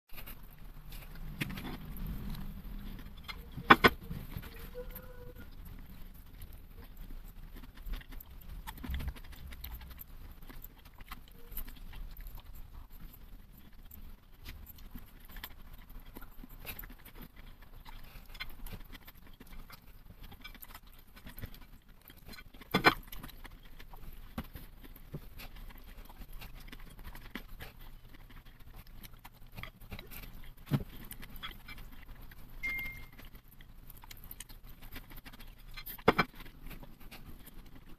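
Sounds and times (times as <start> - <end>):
chewing and mouth sounds: 0.1 - 37.9.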